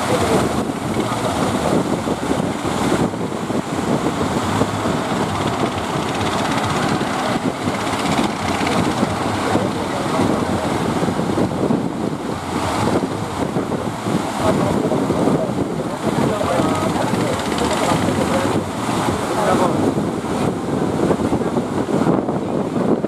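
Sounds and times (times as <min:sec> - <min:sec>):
breaking surf: 0:00.0 - 0:23.0
wind buffeting microphone: 0:00.0 - 0:23.0.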